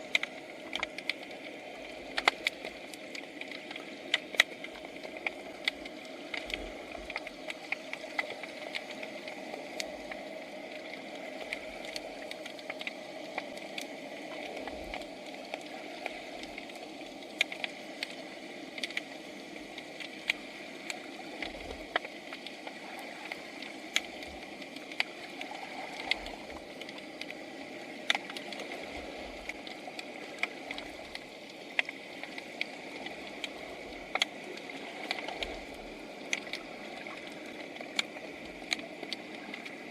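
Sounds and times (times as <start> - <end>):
underwater crackling clicks: 0.0 - 39.9.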